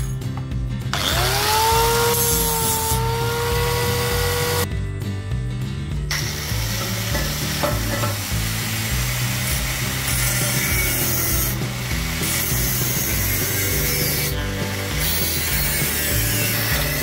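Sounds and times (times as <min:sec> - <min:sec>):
angle grinder cutting metal: 0:00.9 - 0:04.7, 0:06.1 - 0:17.0.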